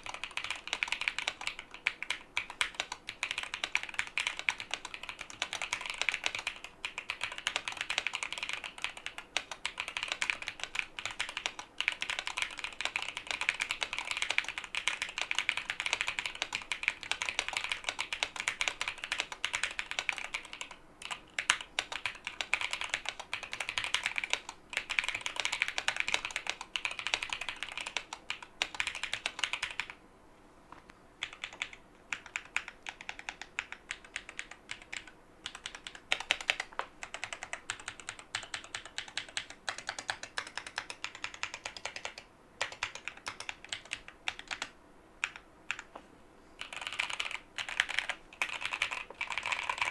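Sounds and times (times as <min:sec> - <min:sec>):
mechanical keyboard typing: 0:00.0 - 0:30.0, 0:31.2 - 0:45.9, 0:46.6 - 0:49.9.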